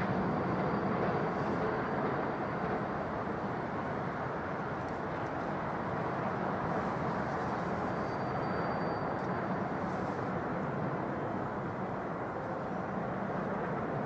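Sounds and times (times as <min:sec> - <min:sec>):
distant city traffic rumble: 0:00.0 - 0:14.0.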